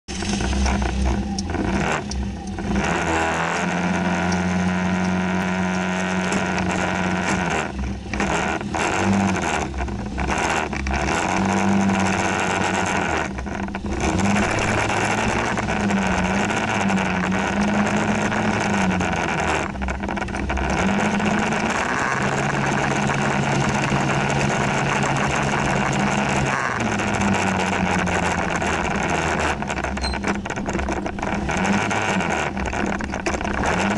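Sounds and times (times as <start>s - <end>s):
motor scooter engine revving: 0.1s - 33.9s.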